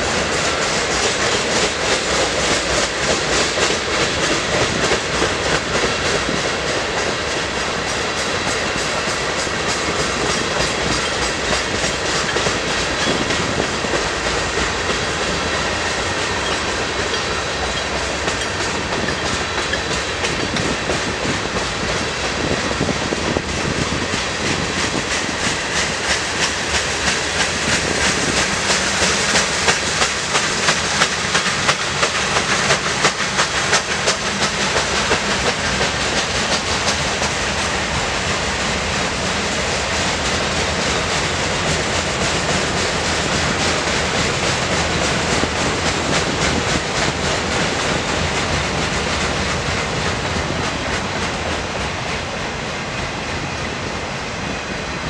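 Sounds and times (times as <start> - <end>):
wheels clicking over rail joints: 0.0 - 52.6
freight train cars rumbling: 0.0 - 55.0.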